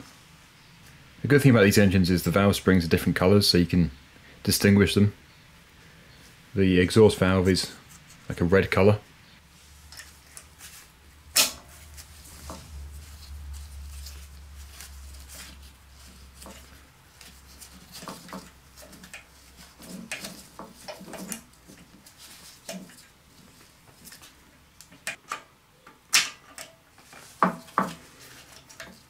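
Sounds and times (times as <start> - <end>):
rustles: 0.0 - 25.2, 25.8 - 29.0
low steady hum: 0.0 - 29.0.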